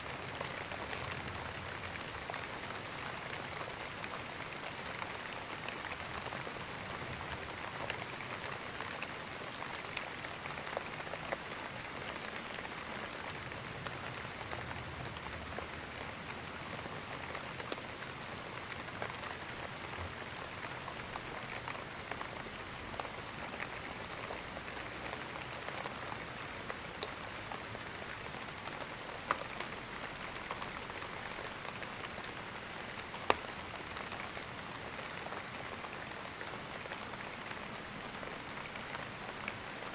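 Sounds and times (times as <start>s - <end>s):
steady rain hiss: 0.0s - 39.9s
raindrops ticking on a surface: 0.1s - 39.9s.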